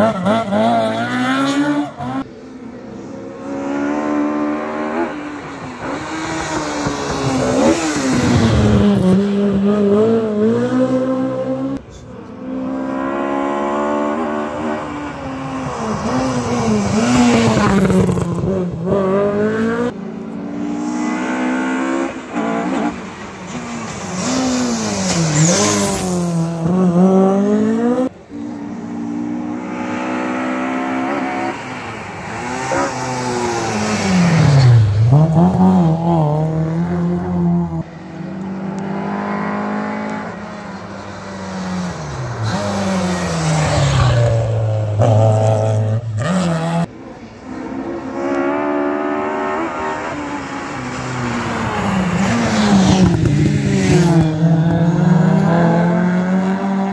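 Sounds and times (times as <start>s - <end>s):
rally cars passing at full throttle: 0.0s - 56.9s.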